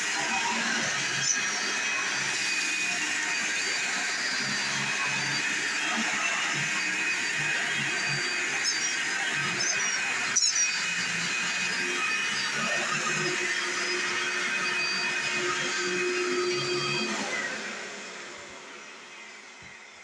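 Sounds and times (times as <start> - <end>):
stick vacuum cleaner whining: 0.0 - 20.0
vacuum motor winding down: 0.0 - 20.0.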